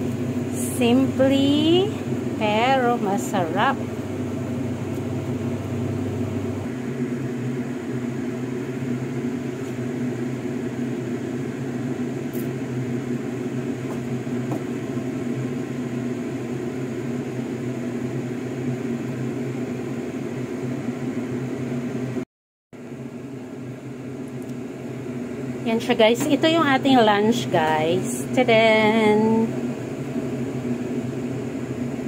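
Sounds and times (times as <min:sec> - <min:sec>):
fan motor humming: 0:00.0 - 0:22.2, 0:22.8 - 0:32.0.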